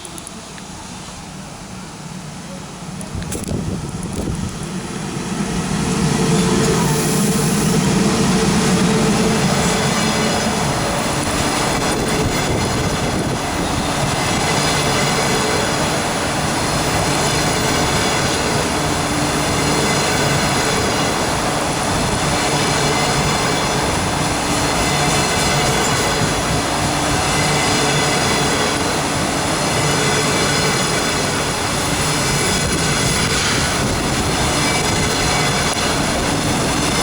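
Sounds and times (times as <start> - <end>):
train wheels on rails: 0.0 - 37.0.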